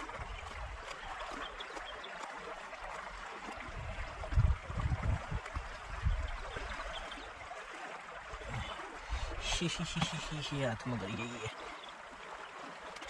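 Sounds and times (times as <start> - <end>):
water flowing in a canal: 0.0 - 13.0.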